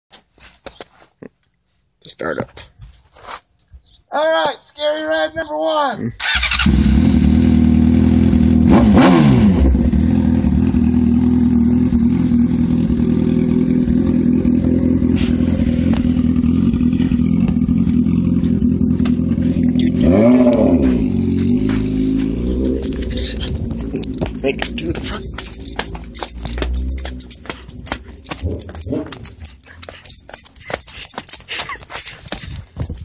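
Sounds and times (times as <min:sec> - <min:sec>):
motorcycle engine revving and idling: 0:06.2 - 0:33.0.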